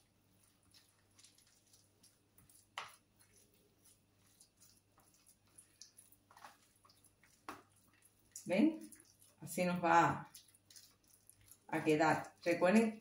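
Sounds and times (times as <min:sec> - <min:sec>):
utensil stirring food in a tub: 0:00.0 - 0:13.0.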